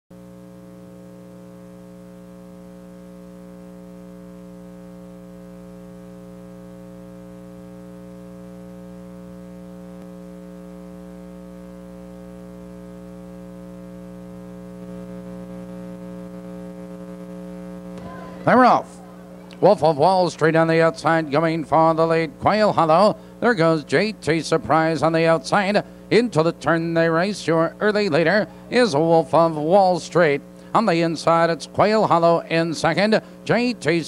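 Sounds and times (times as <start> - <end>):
electrical mains hum: 0.2 - 34.0.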